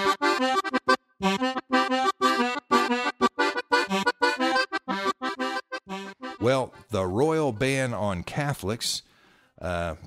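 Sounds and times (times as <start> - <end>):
lively instrumental music: 0.0 - 8.2.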